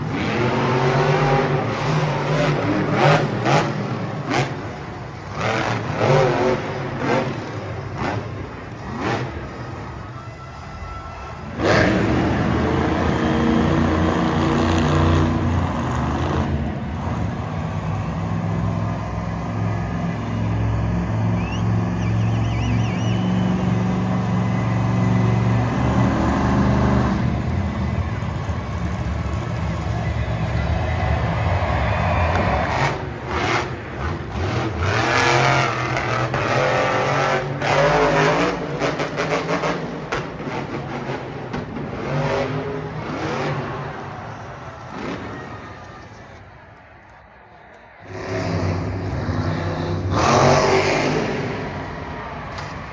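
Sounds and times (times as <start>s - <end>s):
monster truck engine revving: 0.0s - 10.1s, 11.3s - 46.1s, 48.0s - 52.9s.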